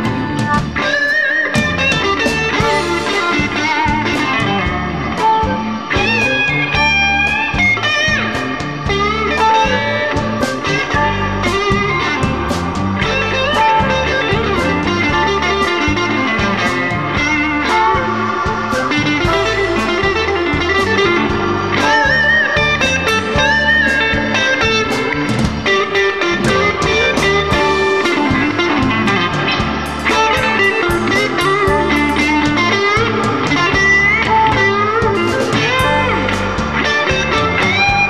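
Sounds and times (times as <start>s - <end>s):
blues band playing: 0.0s - 38.0s
electric guitar lead: 0.0s - 38.0s.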